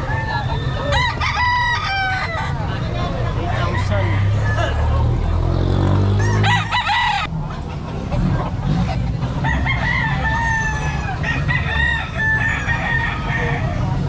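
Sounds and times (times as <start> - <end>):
roosters crowing: 0.0 - 7.3, 9.2 - 14.0.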